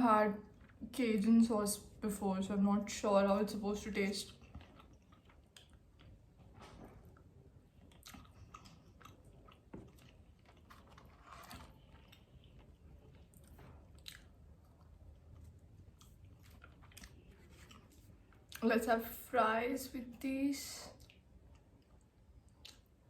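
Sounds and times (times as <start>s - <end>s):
chewing food: 0.1s - 2.0s, 2.9s - 19.2s, 20.8s - 23.0s.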